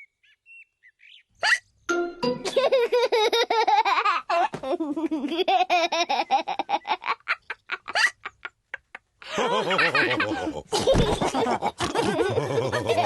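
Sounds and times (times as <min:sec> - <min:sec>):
cartoon pigs laughing and snorting: 0:02.4 - 0:13.0.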